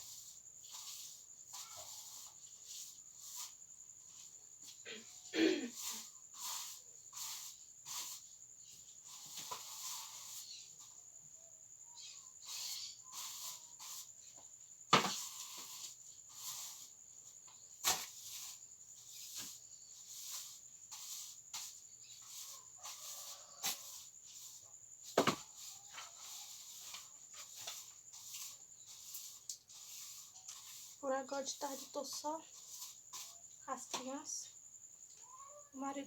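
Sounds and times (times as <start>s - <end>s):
cricket trill: 0.0s - 36.0s.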